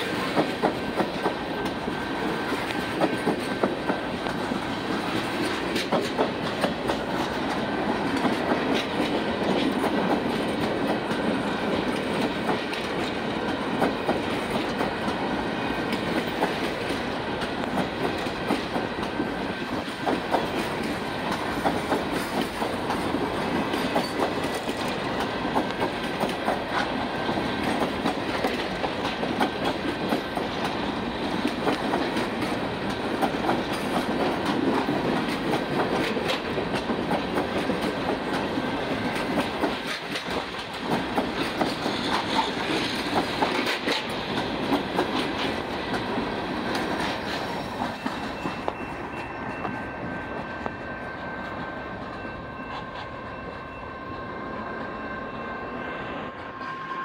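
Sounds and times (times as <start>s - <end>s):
steel wheels rolling on rail: 0.0s - 57.0s
wheels clicking over rail joints: 0.1s - 49.8s.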